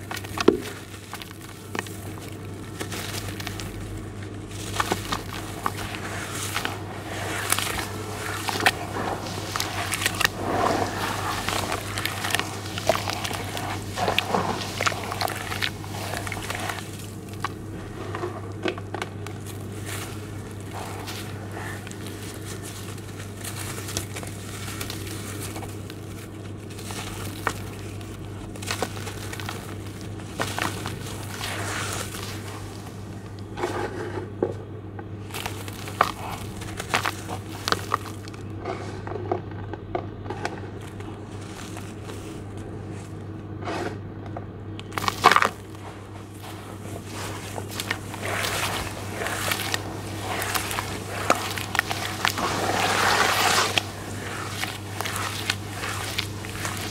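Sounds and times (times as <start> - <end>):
clumps crumbling into water: 0.0 - 33.5, 35.2 - 38.5, 44.8 - 56.9
steady low hum: 0.0 - 56.9.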